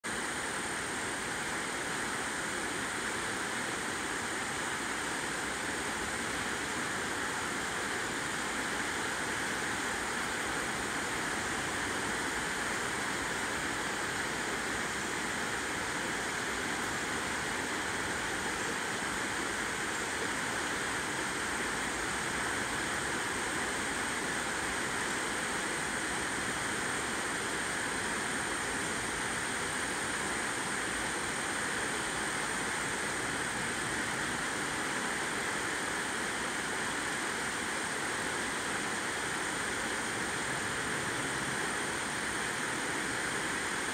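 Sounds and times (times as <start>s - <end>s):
creek water rushing over rocks: 0.1s - 43.9s.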